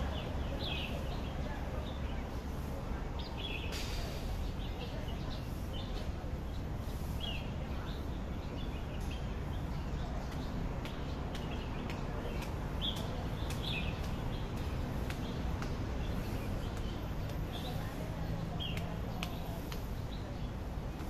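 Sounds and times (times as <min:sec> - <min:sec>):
low city noise: 0:00.0 - 0:21.0
small birds chirping: 0:00.0 - 0:21.0.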